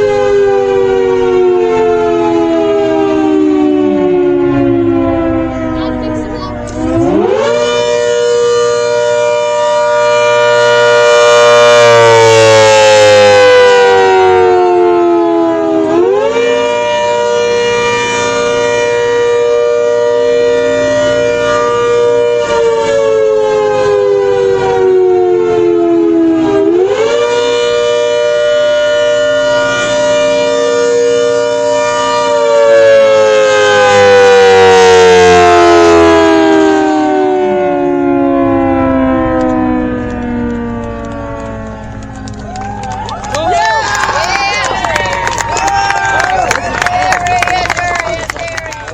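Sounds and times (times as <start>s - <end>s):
warning siren wailing: 0.0s - 48.9s.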